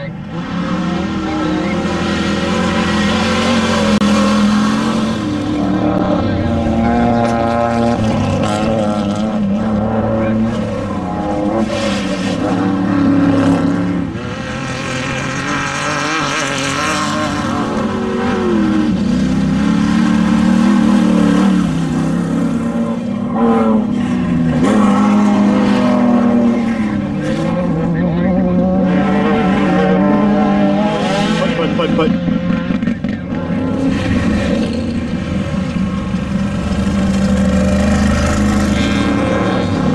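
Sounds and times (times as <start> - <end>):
race vehicle engines revving: 0.0 - 39.9.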